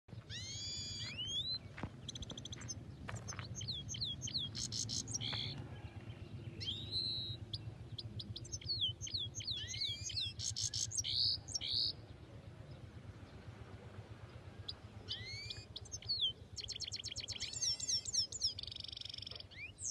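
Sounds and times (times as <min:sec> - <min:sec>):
finches singing: 0:00.1 - 0:19.9.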